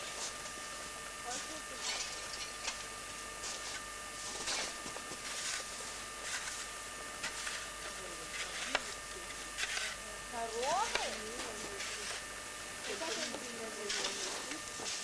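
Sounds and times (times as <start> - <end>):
faint constant whine: 0.0 - 15.0.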